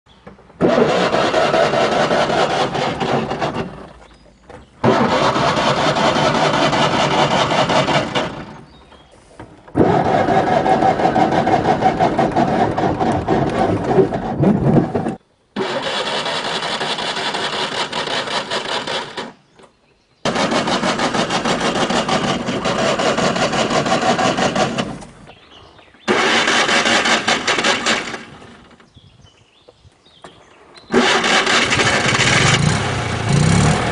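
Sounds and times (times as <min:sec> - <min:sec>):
car engine cranking: 0:00.4 - 0:19.4, 0:20.2 - 0:25.4, 0:26.1 - 0:28.8, 0:30.9 - 0:33.9.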